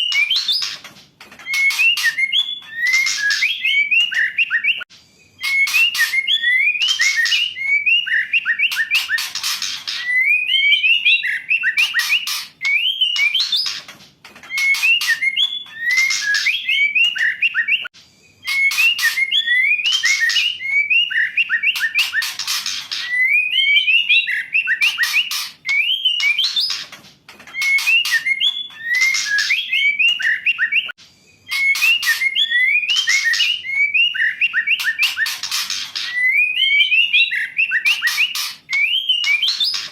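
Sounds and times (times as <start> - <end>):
bird song with whistled notes: 0.0 - 39.9.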